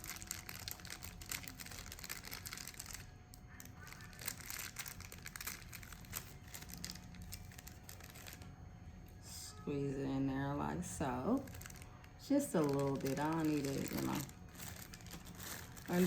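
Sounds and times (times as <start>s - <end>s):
plastic packaging crinkling: 0.0s - 8.6s, 11.0s - 16.0s.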